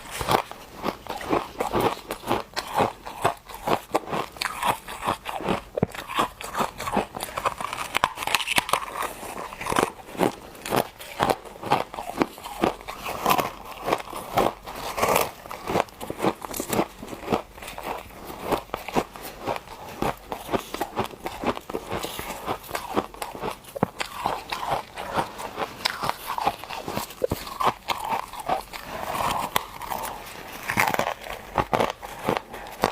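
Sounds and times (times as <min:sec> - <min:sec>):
ice crunching between teeth: 0:00.0 - 0:32.9.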